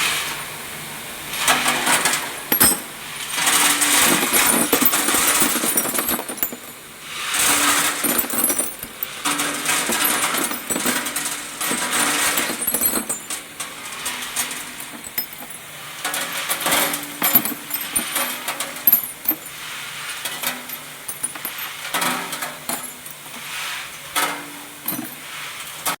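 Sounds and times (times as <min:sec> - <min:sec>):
metal parts clinking and rattling: 0:02.5 - 0:23.5, 0:24.2 - 0:25.3.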